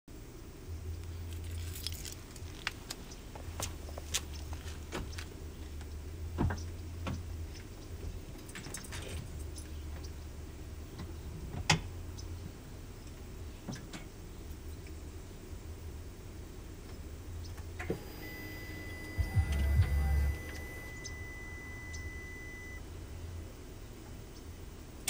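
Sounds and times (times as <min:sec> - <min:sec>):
low steady hum: 0:00.1 - 0:25.0.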